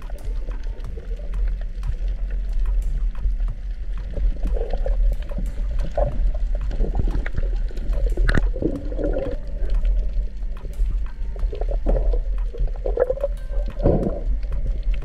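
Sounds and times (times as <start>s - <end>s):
bubbling: 0.0s - 15.0s
low underwater rumble: 0.0s - 15.0s
underwater clicks: 0.0s - 15.0s.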